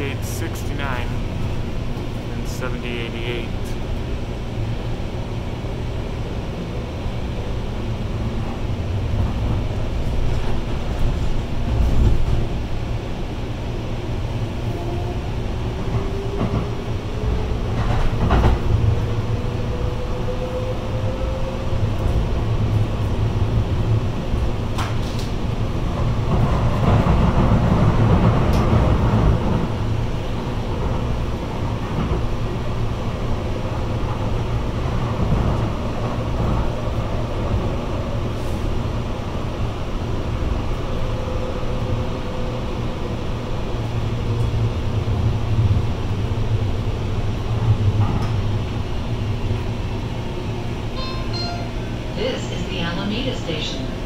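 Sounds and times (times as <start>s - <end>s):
light rail car rumbling: 0.0s - 54.0s.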